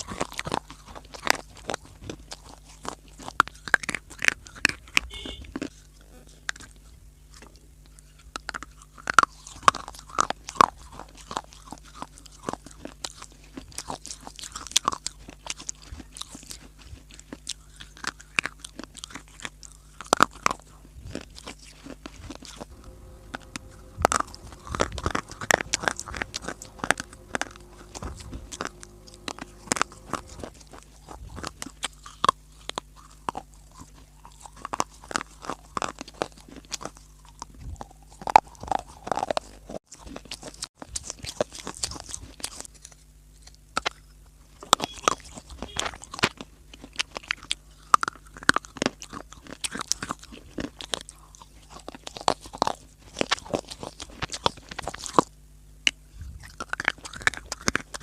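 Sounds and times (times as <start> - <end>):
crunchy chewing of dry clay: 0.0 - 58.0.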